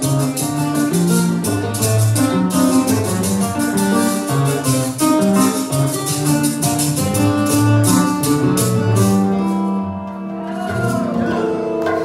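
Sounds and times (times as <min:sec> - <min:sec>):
guitars picking a tune: 0:00.0 - 0:12.0
hand percussion beat: 0:00.0 - 0:12.0.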